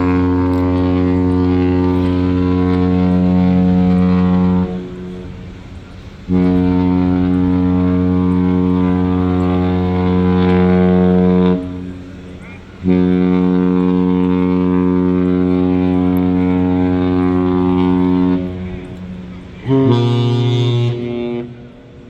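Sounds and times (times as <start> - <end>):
ship horn blasts: 0.0 - 22.0.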